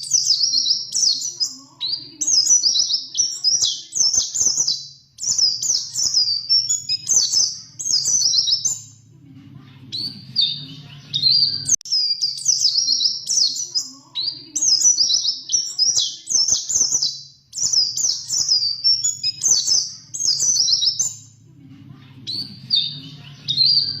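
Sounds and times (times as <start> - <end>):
bird singing fast chattering song: 0.0 - 9.0, 9.9 - 21.4, 22.3 - 24.0.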